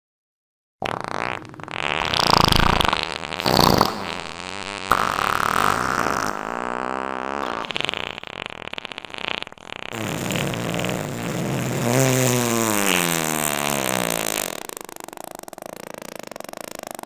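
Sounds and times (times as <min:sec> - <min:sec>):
fart sound effect: 0:00.8 - 0:17.0.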